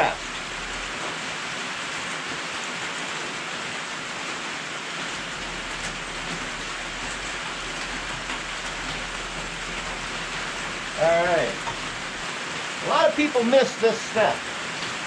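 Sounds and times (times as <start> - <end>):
rain on a metal roof: 0.0 - 15.0.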